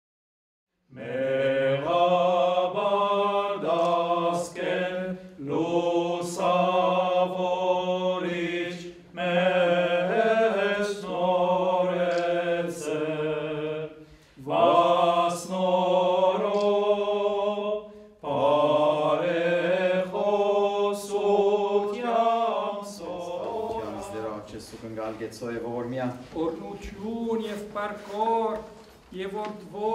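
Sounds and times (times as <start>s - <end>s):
voices chanting slow melody: 0.9s - 24.9s, 26.2s - 29.9s.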